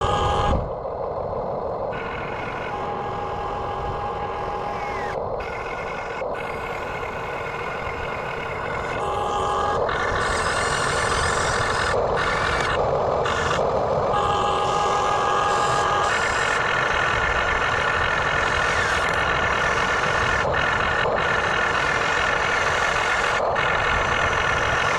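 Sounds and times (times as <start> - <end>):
toy excavator mechanical noise: 0.0 - 0.6, 1.9 - 24.9.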